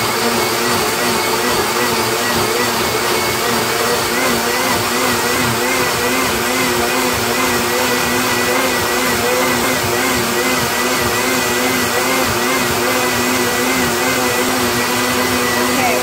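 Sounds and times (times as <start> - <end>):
blender motor whirring: 0.0 - 16.0.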